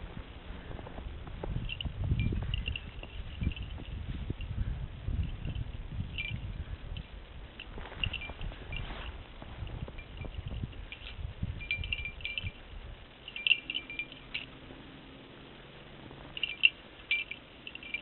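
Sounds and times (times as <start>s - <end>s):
high tinkling: 1.4s - 14.7s, 16.2s - 18.0s.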